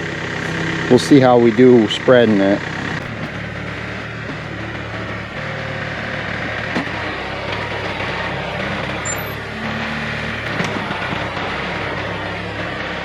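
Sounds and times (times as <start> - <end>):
backhoe diesel engine running: 0.0 - 13.0.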